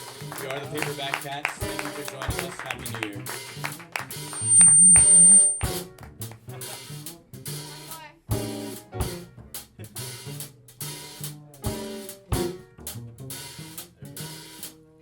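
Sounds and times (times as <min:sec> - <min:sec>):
drum kit hits: 0:00.0 - 0:04.6, 0:05.5 - 0:14.8
live band playing: 0:00.0 - 0:15.0.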